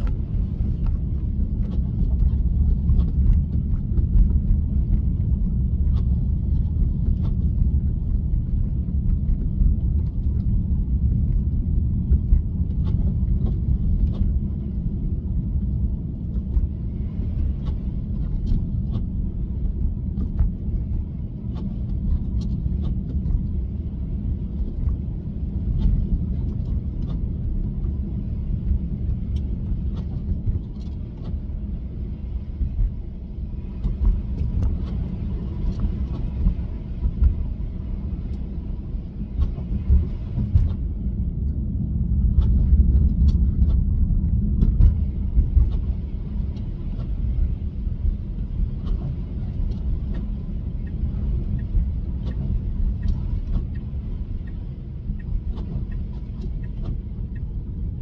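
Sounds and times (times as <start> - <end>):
road and tyre rumble inside car: 0.0 - 58.0.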